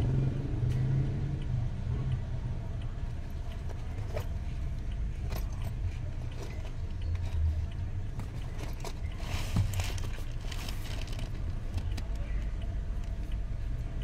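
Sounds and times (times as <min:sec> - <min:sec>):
low rumble inside car cabin: 0:00.0 - 0:14.0.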